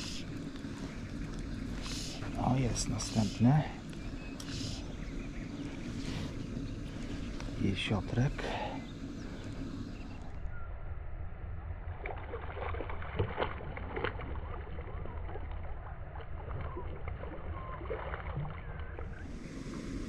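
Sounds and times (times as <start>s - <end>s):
muffled water sloshing and splashing: 0.0s - 10.6s, 11.6s - 20.0s
low rumble: 0.0s - 17.7s.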